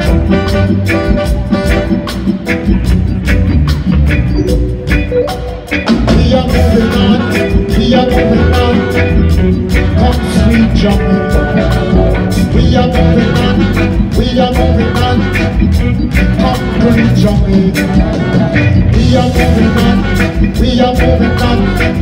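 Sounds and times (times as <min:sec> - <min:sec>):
live reggae band playing: 0:00.0 - 0:22.0.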